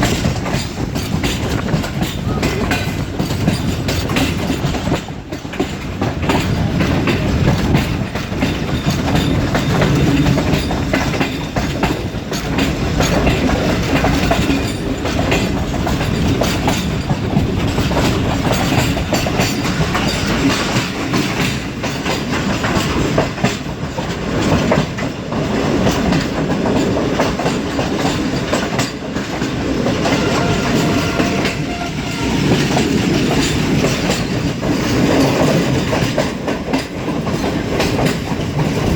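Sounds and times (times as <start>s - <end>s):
train coaches rumbling: 0.0s - 38.9s
wheels clickety-clack on rails: 0.0s - 38.9s.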